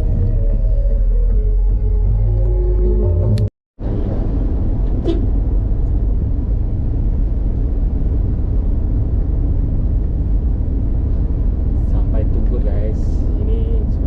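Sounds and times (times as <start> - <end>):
vehicle travel rumble: 0.0 - 14.0
wind: 0.0 - 14.0.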